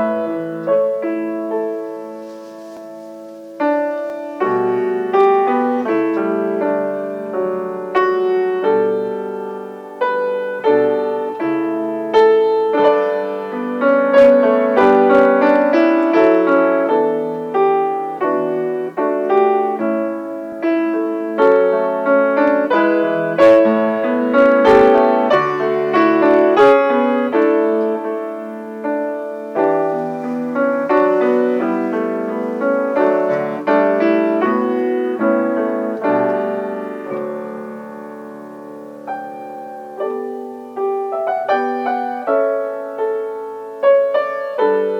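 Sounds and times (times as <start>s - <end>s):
slow solo piano: 0.0s - 44.9s.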